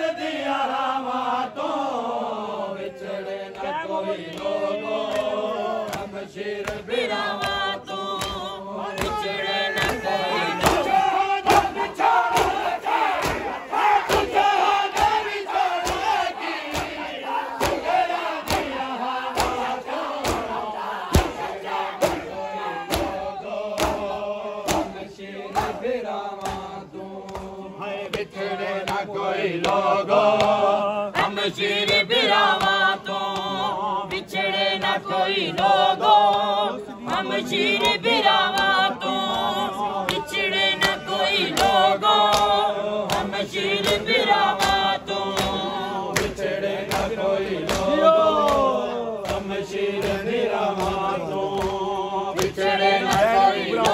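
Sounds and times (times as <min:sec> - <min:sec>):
men chanting a lament: 0:00.0 - 0:53.9
rhythmic chest-beating slaps: 0:00.0 - 0:53.9.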